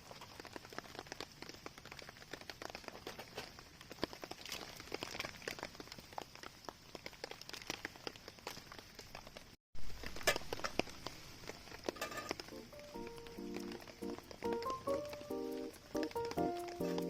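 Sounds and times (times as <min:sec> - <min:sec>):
faint hiss: 0:00.0 - 0:17.0
raindrops tapping on a tarp: 0:00.0 - 0:17.0.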